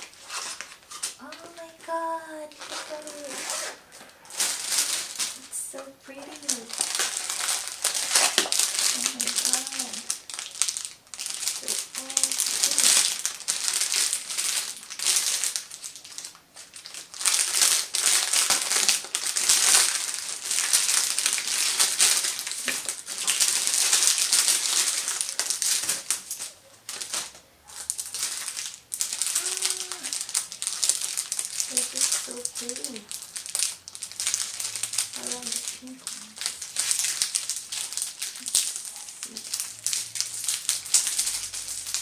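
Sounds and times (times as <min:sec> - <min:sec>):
plastic packaging crinkling: 0:00.0 - 0:42.0.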